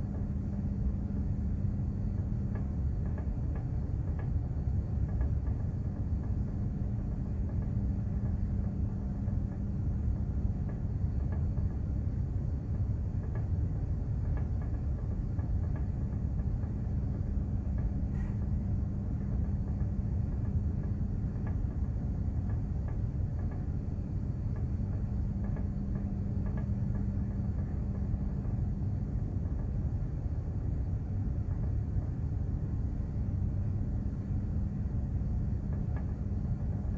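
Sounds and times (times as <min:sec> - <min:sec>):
ship low rumble: 0:00.0 - 0:36.9
steady hum: 0:00.0 - 0:36.9.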